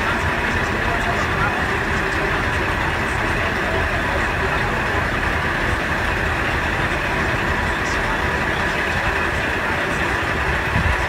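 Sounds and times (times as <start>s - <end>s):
diesel railcar idling: 0.0s - 11.0s.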